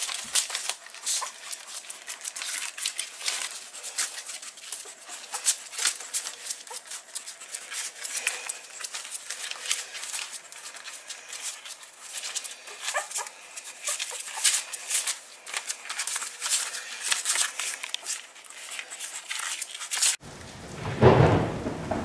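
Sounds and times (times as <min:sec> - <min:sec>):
paper crinkling under puppy's paws: 0:00.0 - 0:20.2.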